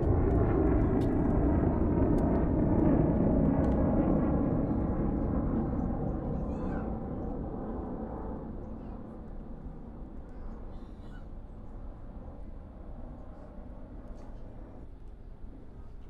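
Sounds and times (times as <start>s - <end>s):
distant jet engine rumble: 0.0s - 16.0s.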